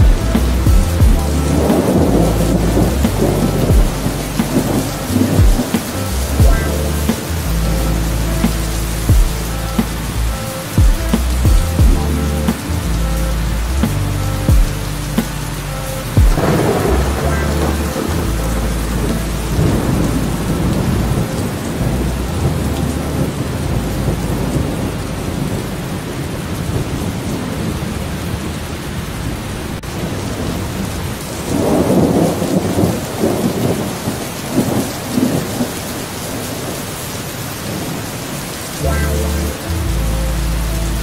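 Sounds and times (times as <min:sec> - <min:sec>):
steady rain falling: 0:00.0 - 0:41.0
thunder rumbling: 0:00.0 - 0:41.0.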